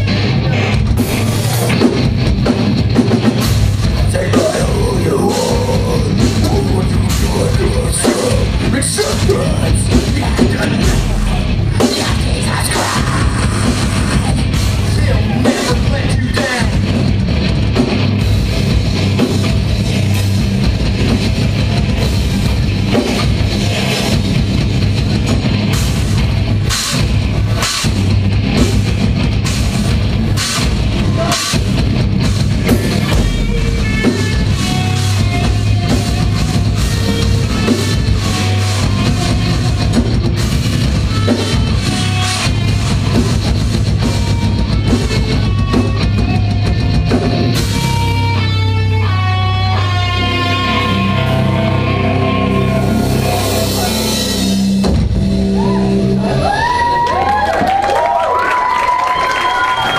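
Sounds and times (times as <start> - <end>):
fast dense drumming: 0.0 - 48.3, 53.2 - 55.8
bass guitar: 0.0 - 59.9
distorted guitars: 0.0 - 59.9.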